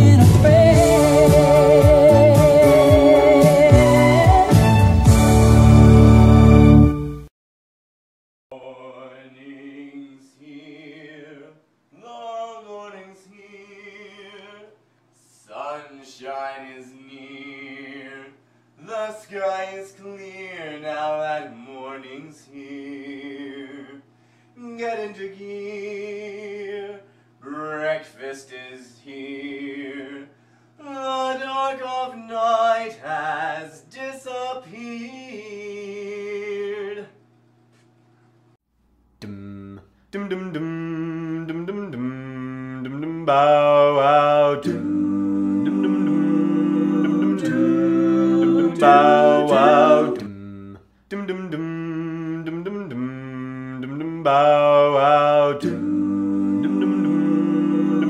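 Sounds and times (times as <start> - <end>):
man singing with vibrato: 0.0 - 4.7, 8.5 - 37.1, 39.2 - 58.0.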